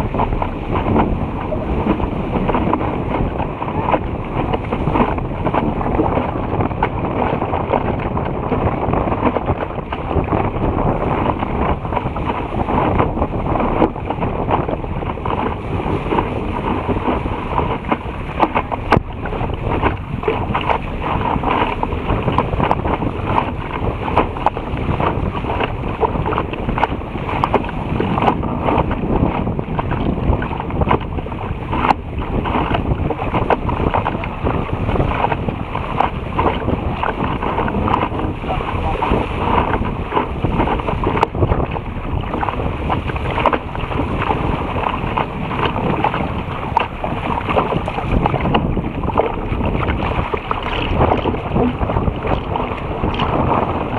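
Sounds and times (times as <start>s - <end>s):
water rushing past a hull: 0.0s - 53.9s
wind buffeting the microphone: 0.0s - 53.9s.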